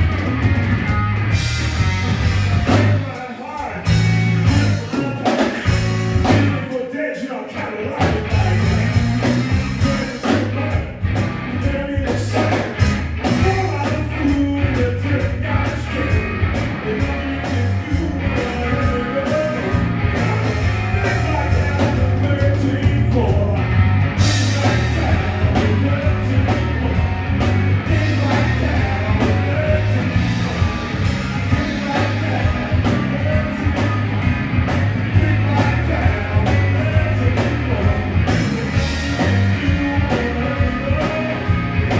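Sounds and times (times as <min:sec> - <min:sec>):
live blues-rock band playing: 0:00.0 - 0:41.9.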